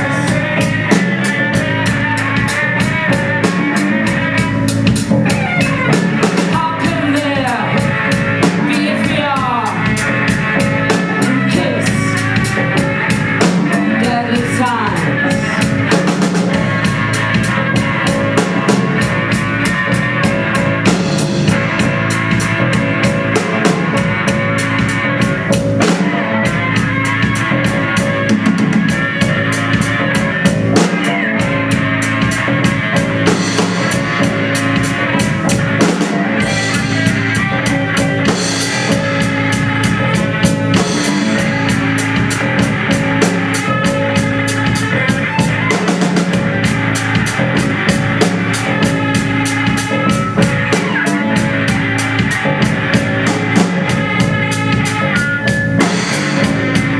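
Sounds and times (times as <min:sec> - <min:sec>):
drum kit beat: 0:00.0 - 0:56.9
sustained pitched instruments: 0:00.0 - 0:56.9.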